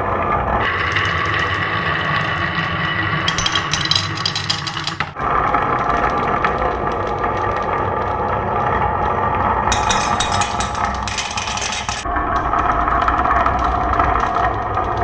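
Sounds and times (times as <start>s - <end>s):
marbles rolling on wooden track: 0.6s - 5.2s, 5.9s - 15.0s.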